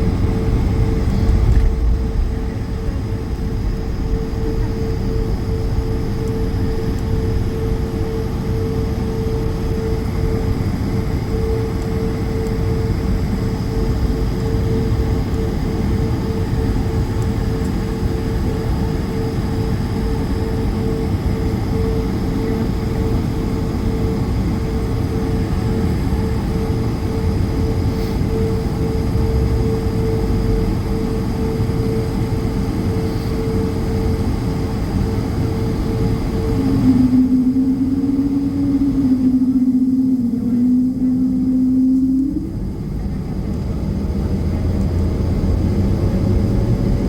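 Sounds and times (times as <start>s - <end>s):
jet engine cabin rumble: 0.0s - 47.0s
lower wavering hum: 0.0s - 47.0s.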